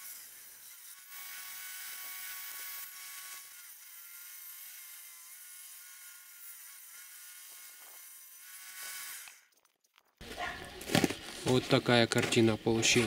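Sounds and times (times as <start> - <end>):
circular saw ripping a board: 0.0 - 13.0.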